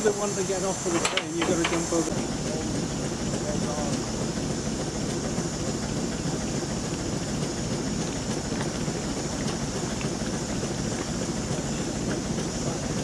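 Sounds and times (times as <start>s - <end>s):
steam engine rumble: 0.0s - 13.0s
steam hissing: 0.0s - 13.0s.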